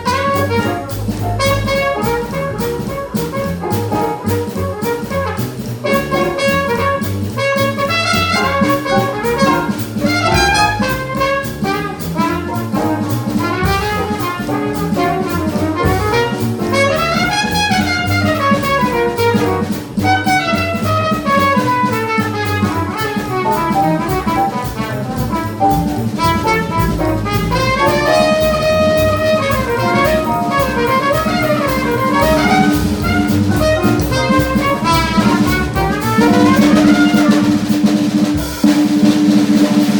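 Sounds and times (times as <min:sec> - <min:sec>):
alto saxophone: 0:00.0 - 0:37.8
bass: 0:00.0 - 0:39.9
drum kit: 0:00.0 - 0:39.9
trumpet: 0:00.0 - 0:39.9.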